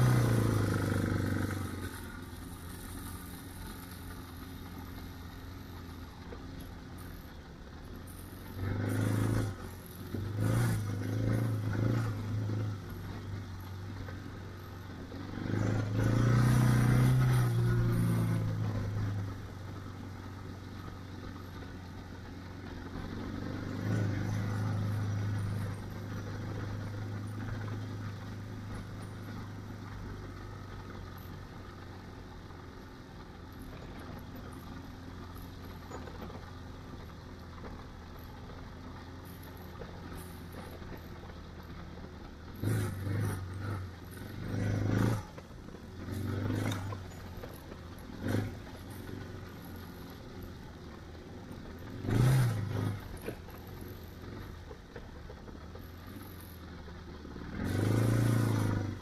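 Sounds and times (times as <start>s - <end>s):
motorcycle engine running: 0.0s - 59.0s
rattle and clatter: 0.0s - 59.0s.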